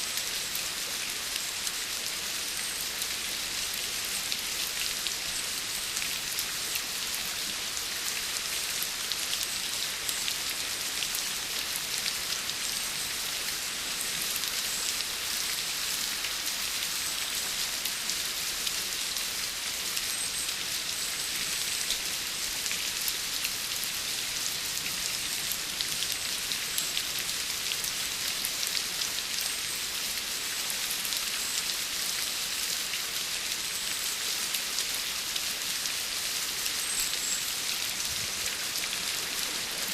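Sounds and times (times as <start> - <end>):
steady rainfall pattering: 0.0 - 39.9.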